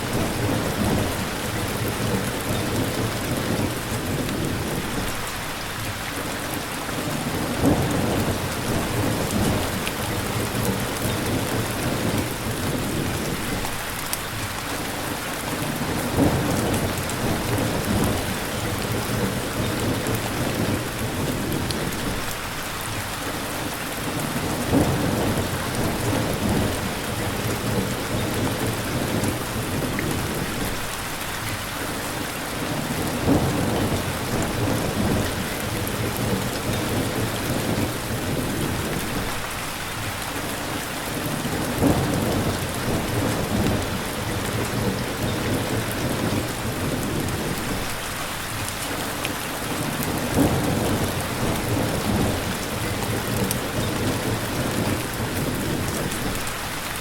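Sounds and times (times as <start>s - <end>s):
thunder rumbles: 0.0s - 5.3s, 6.5s - 14.0s, 15.7s - 22.9s, 23.6s - 31.2s, 32.2s - 56.6s
heavy rain hissing: 0.0s - 57.0s.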